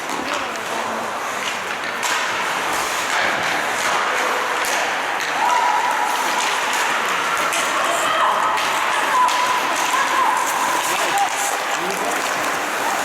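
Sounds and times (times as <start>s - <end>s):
hockey sticks and puck knocks: 0.0s - 13.0s
skates scraping on ice: 0.0s - 13.0s.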